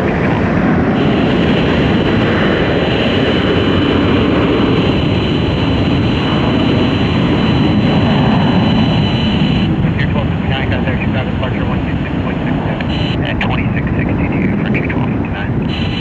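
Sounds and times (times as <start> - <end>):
jet engines on landing approach: 0.0 - 16.0.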